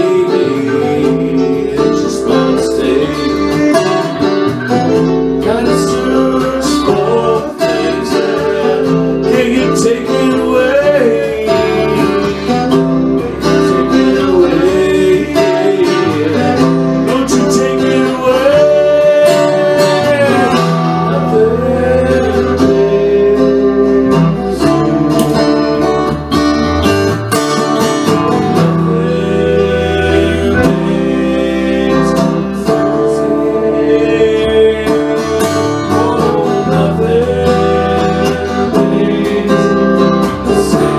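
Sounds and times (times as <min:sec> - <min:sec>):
country music on acoustic guitar: 0:00.0 - 0:40.9.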